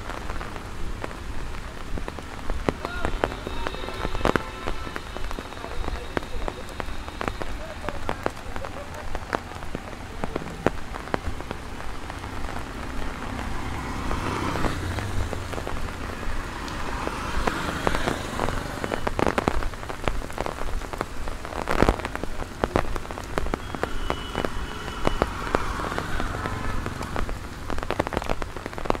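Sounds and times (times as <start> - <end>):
rain falling on pavement: 0.0 - 29.0
raindrop ticks: 0.0 - 29.0.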